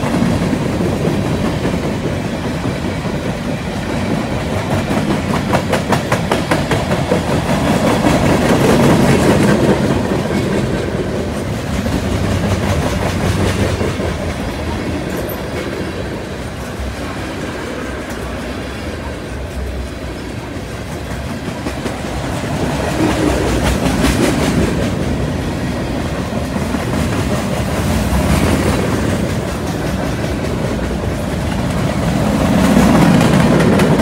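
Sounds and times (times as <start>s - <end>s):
freight train wheels rumbling on rail: 0.0s - 34.0s
rhythmic clicking of train wheels: 0.0s - 34.0s.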